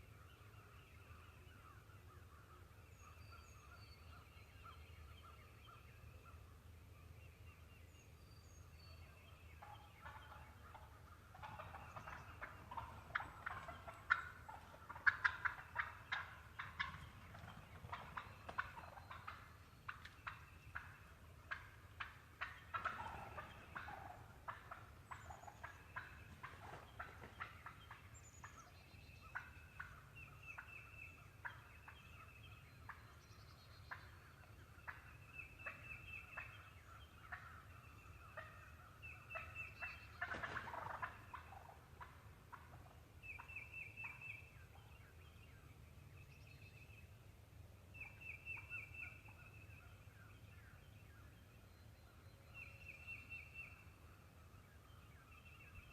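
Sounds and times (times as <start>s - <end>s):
small birds chirping faintly: 0.0s - 55.9s
wild turkeys calling: 7.5s - 47.2s, 47.8s - 55.9s.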